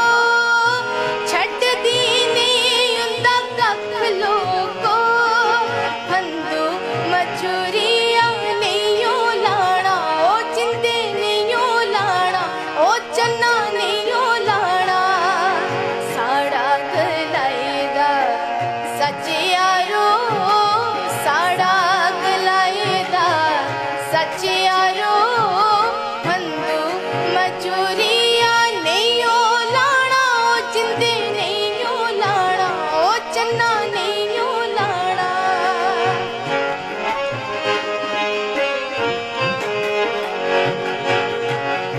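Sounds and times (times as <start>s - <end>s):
woman singing: 0.0s - 37.2s
harmonium: 0.0s - 41.9s
tabla beat: 0.0s - 41.9s.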